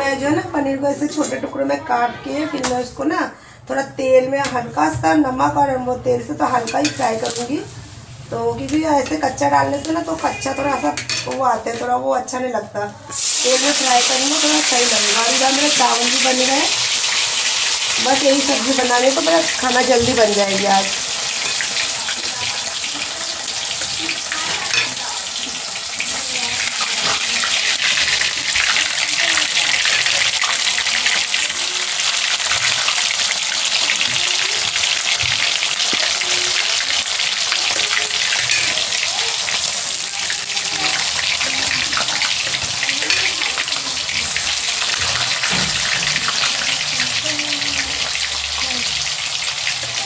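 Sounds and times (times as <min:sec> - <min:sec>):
food frying in hot oil: 0:06.4 - 0:11.8, 0:13.1 - 0:50.0.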